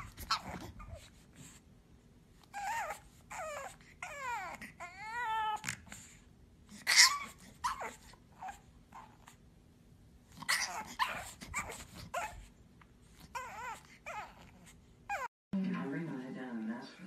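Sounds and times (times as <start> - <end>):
puppy whining: 0.0 - 1.7, 2.3 - 9.5, 10.2 - 15.3.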